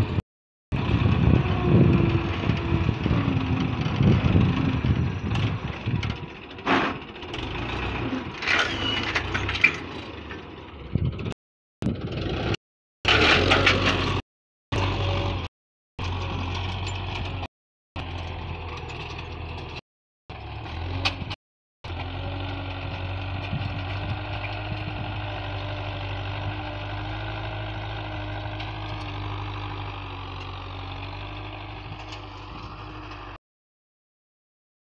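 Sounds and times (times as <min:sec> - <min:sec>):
tractor diesel engine under load: 0:00.0 - 0:33.4.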